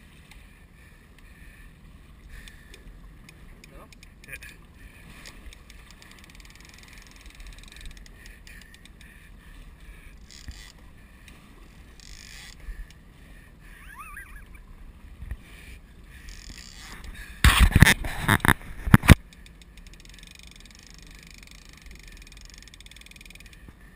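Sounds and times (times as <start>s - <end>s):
faint wind: 0.0s - 23.9s
sea noise: 0.0s - 23.9s.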